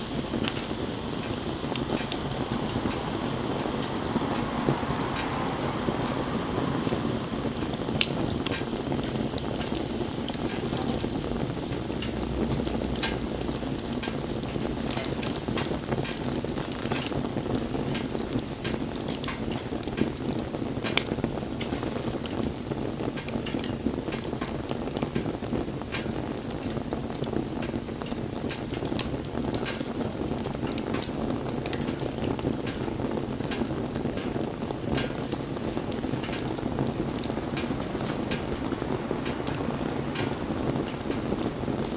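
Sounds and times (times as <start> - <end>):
flames rushing: 0.0 - 41.9
wood fire crackling and popping: 0.0 - 41.9.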